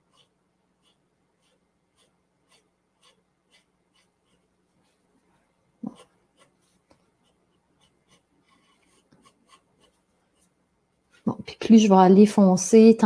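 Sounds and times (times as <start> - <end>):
pencil scratching on paper: 0.0 - 11.3.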